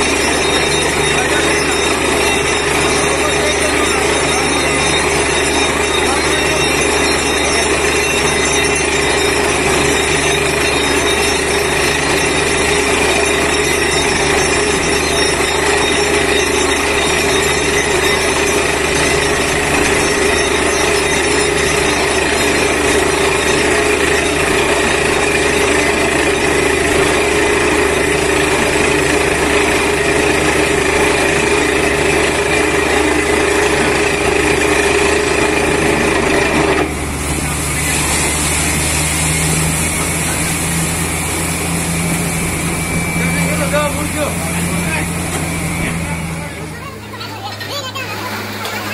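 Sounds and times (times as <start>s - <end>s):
air-driven drilling hammer: 0.0s - 47.9s
engine and air compressor running: 0.0s - 48.9s.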